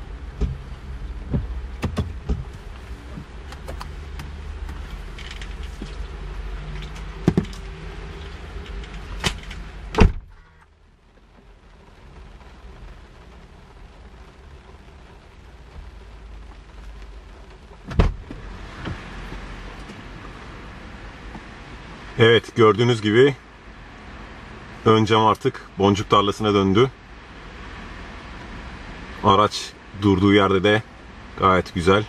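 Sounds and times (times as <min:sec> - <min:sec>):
car engine hum: 0:00.0 - 0:32.0
rain on a car: 0:00.0 - 0:32.0.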